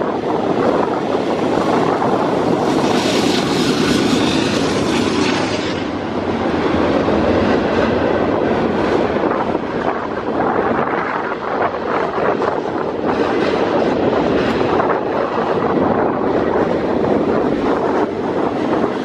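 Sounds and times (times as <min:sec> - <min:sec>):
train wheels rushing over rails: 0:00.0 - 0:19.0.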